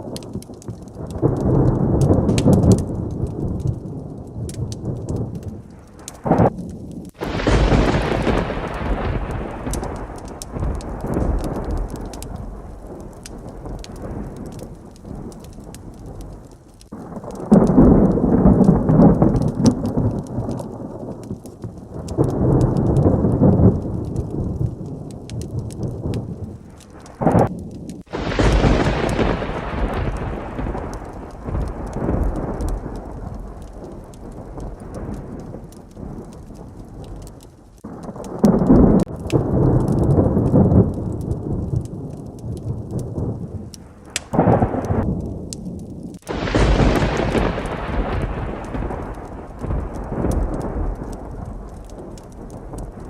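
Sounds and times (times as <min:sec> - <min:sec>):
heavy rain falling: 0:00.0 - 0:53.0
sharp thunderclap: 0:00.0 - 0:53.0
thunder rumbling: 0:00.0 - 0:53.0.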